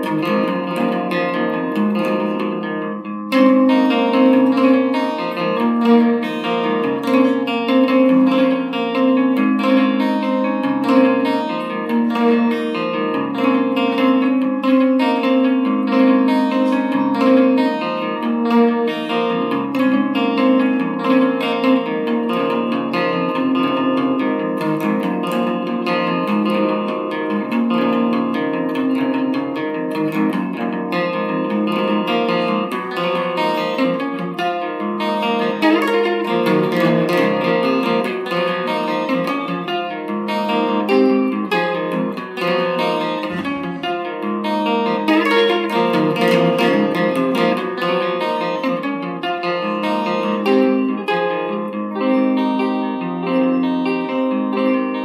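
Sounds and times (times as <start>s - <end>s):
solo electric guitar: 0.0s - 55.0s.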